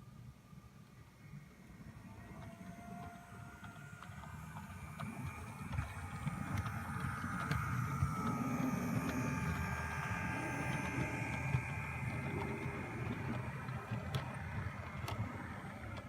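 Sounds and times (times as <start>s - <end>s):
model train motor whining: 2.0s - 16.0s
wheels rumbling on rails: 2.3s - 16.0s
wheels clicking over rail joints: 2.4s - 16.0s.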